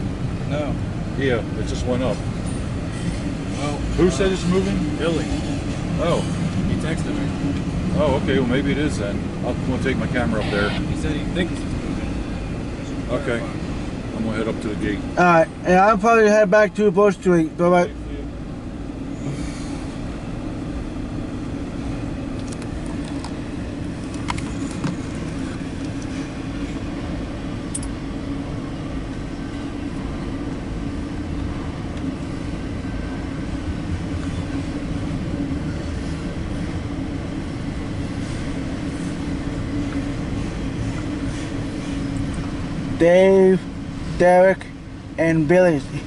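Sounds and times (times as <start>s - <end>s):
engine rumbling steadily: 0.0s - 46.0s.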